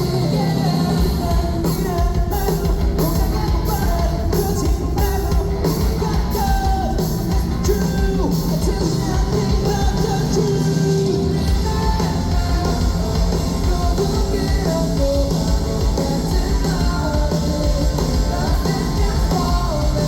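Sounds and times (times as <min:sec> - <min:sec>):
drum beat with cymbal hits: 0:00.0 - 0:20.0
live rock band playing: 0:00.0 - 0:20.0
person singing: 0:00.0 - 0:20.0.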